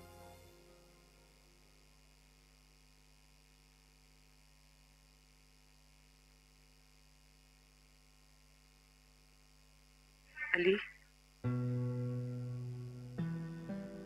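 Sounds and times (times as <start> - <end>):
faint mains hum: 0.0 - 14.0.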